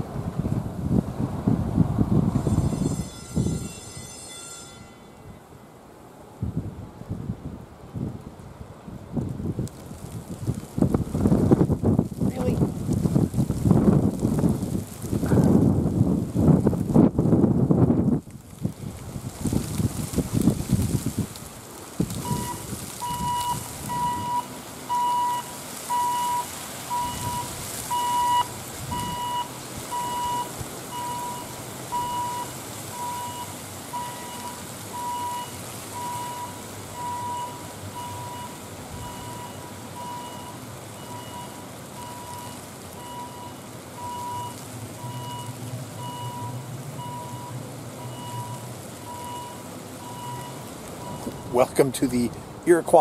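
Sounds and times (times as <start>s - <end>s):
rain hiss: 5.9s - 53.0s.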